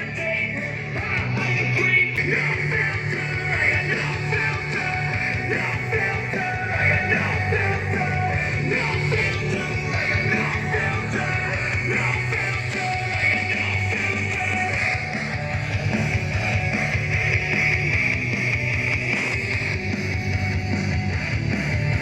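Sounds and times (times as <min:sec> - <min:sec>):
recorded song through speaker: 0:00.0 - 0:22.0.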